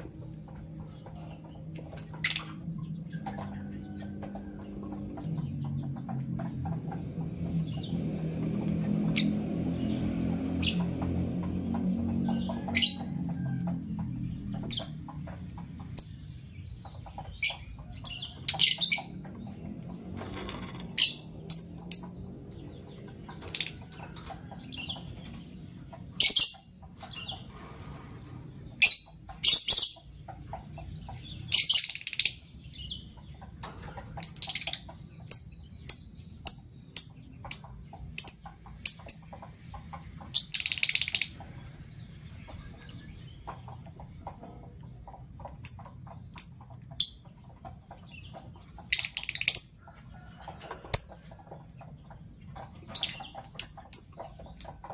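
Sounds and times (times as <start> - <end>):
lovebirds chirping: 0.0 - 54.9.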